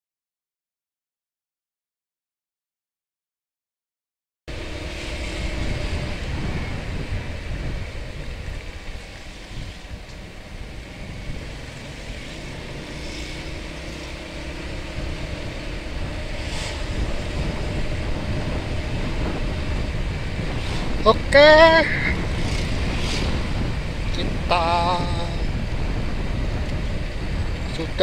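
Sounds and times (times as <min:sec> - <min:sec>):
scooter engine running: 0:04.5 - 0:27.7
wind rumble on microphone: 0:04.5 - 0:28.0.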